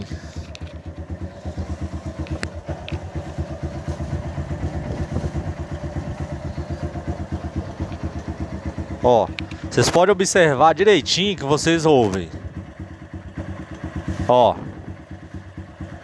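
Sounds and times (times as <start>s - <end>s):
light engine ticking clicks: 0.0s - 14.2s
motorcycle engine idling: 0.0s - 16.0s.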